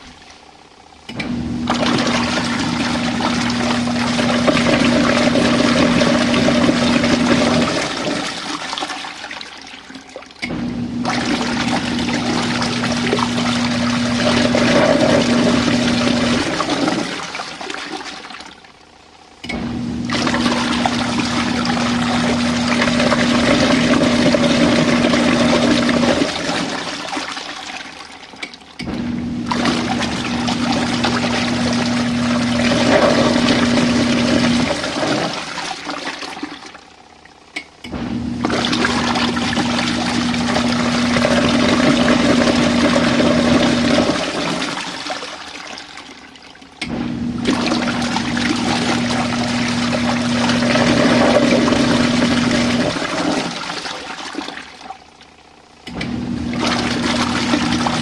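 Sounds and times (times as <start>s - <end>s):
washing machine motor humming: 0.0s - 58.0s
water swirling in tub: 0.0s - 58.0s.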